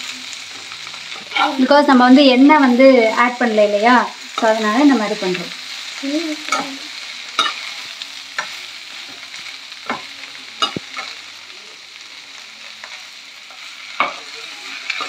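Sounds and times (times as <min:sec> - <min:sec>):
leaves sizzling in pan: 0:00.0 - 0:15.0.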